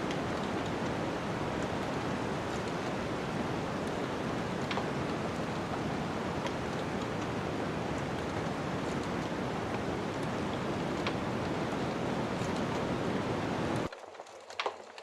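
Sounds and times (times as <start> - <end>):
rushing wind: 0.0 - 13.9
wood fire crackling: 0.0 - 15.0.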